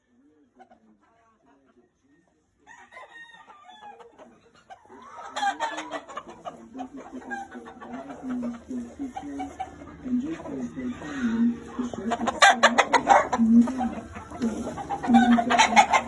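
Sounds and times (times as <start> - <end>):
roosters crowing and clucking: 0.0 - 16.0.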